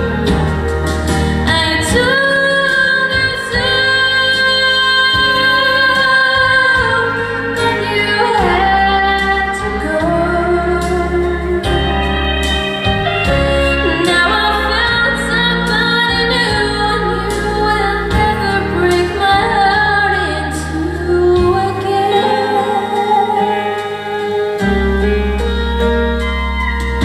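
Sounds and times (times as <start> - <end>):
woman singing a country ballad: 0.0 - 25.5
backing band playing: 0.0 - 27.0.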